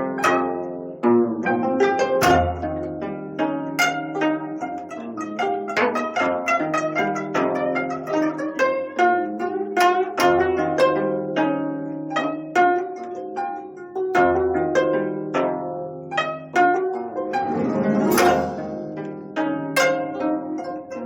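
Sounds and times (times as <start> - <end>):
plucked zither notes: 0.0 - 21.0.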